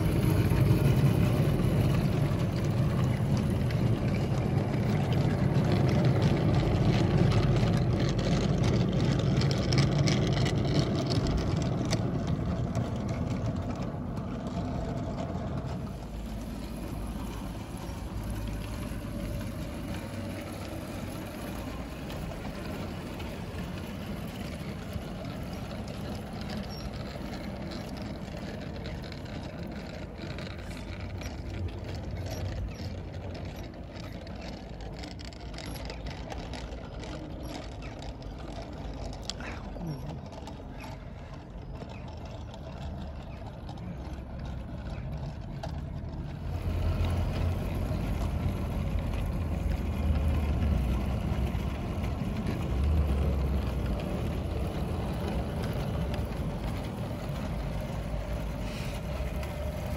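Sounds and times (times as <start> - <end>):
model train wheels rumbling on rail: 0.0 - 59.9.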